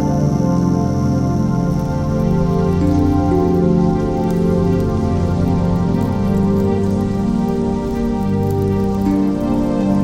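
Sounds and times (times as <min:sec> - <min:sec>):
ambient music with held chords: 0:00.0 - 0:10.0.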